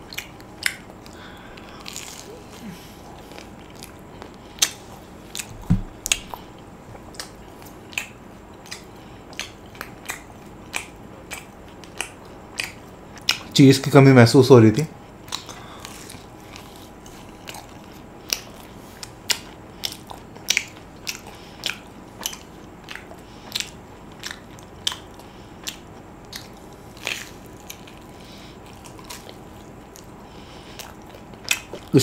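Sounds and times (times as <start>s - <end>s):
crunchy food chewing: 0.0s - 13.5s, 15.0s - 32.0s.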